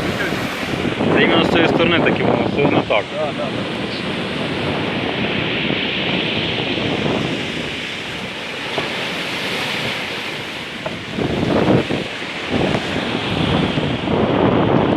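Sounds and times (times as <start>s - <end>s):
surf breaking on shore: 0.0s - 14.9s
wind buffeting microphone: 0.0s - 14.9s.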